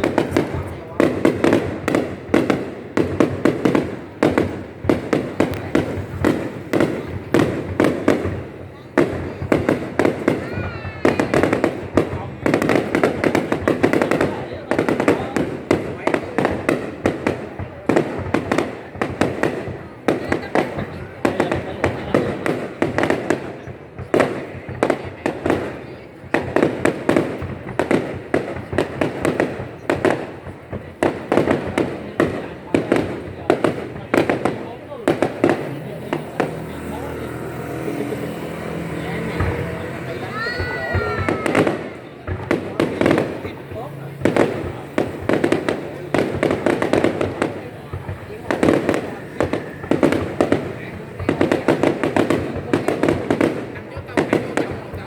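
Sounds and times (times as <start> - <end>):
fireworks bangs: 0.0 - 55.0
fireworks crackling: 0.0 - 55.0.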